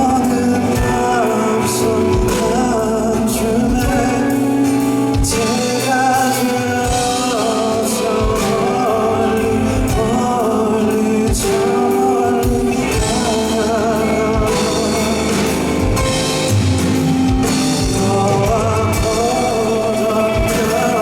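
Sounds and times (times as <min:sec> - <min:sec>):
band playing: 0:00.0 - 0:21.0
man singing: 0:00.0 - 0:21.0.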